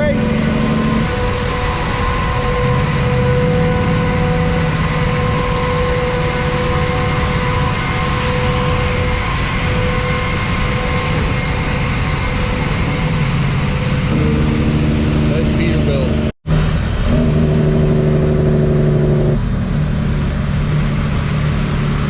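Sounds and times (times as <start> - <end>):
constant high whine: 0.0 - 22.0
vehicle engine low rumble: 0.0 - 22.0.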